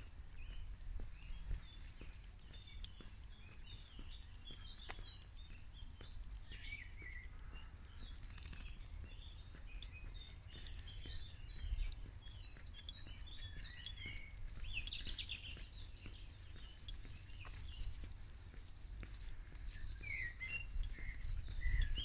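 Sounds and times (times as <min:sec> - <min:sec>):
songbirds chirping and singing: 0:00.0 - 0:22.0.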